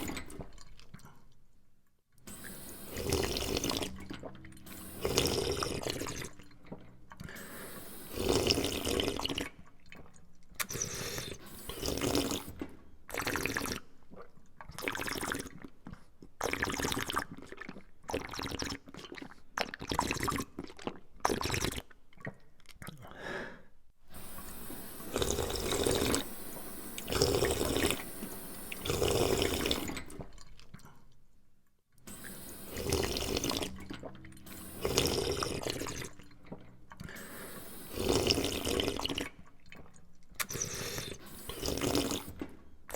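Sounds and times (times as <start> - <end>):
person gulping liquid: 0.0 - 1.5, 2.2 - 31.4, 32.0 - 42.9.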